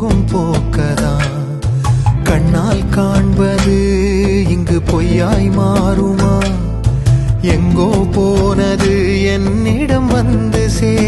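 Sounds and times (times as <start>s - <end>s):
musical accompaniment: 0.0s - 11.0s.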